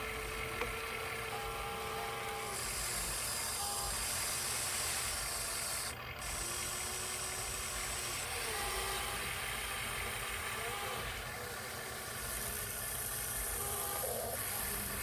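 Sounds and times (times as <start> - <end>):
radio-controlled truck hissing: 0.0 - 15.0.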